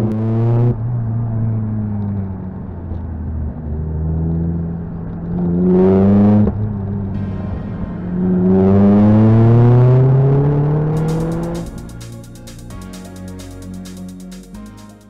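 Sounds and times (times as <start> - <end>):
car engine accelerating through gears: 0.0 - 12.4.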